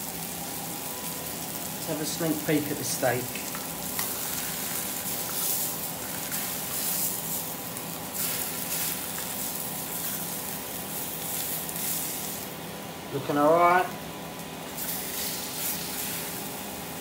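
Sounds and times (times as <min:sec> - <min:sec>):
steak sizzling in a griddle pan: 0:00.0 - 0:12.8, 0:14.6 - 0:17.0.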